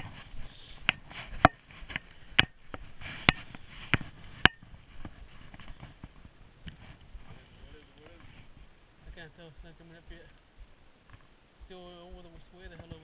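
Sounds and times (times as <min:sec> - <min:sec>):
faint hiss: 0:00.0 - 0:13.0
footsteps on wooden deck: 0:00.0 - 0:13.0.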